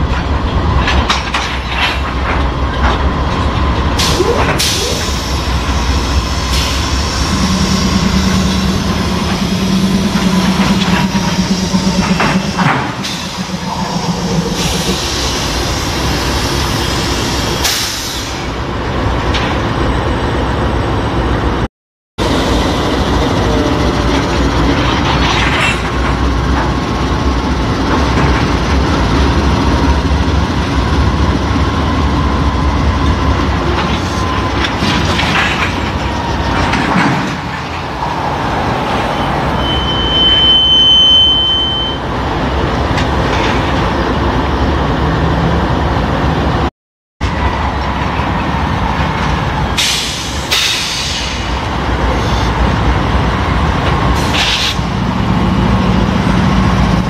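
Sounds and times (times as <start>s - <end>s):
diesel locomotives rumbling past: 0.0s - 57.0s
low engine drone: 0.0s - 57.0s.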